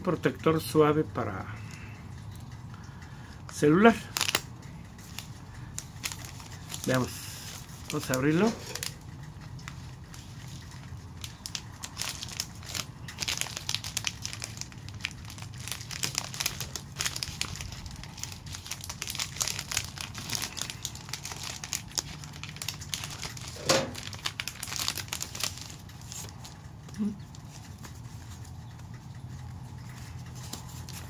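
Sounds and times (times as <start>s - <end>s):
plastic packaging crinkling: 3.5s - 28.9s, 29.8s - 31.0s.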